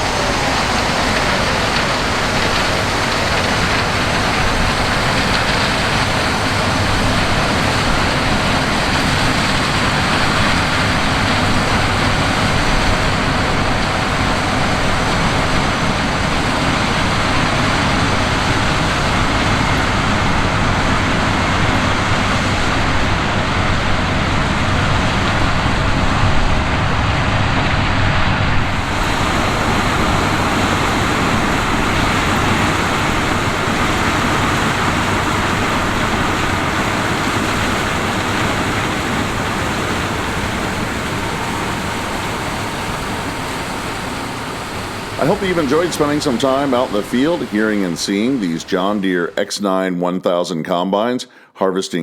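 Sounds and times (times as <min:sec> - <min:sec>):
combine harvester running: 0:00.0 - 0:49.8.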